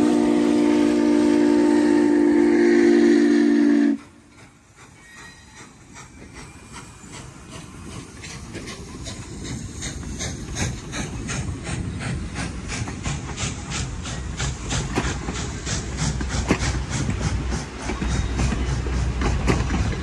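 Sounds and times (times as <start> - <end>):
steam hiss: 0.0 - 20.0
train wheels clickety-clack: 0.0 - 20.0.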